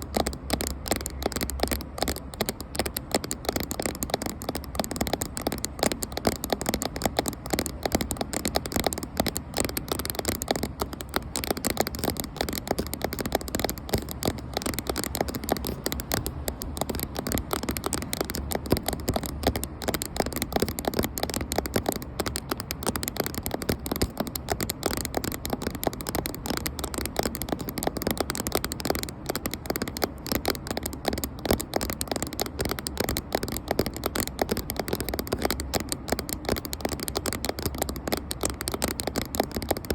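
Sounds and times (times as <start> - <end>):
rapid tapping on camera: 0.0 - 39.9.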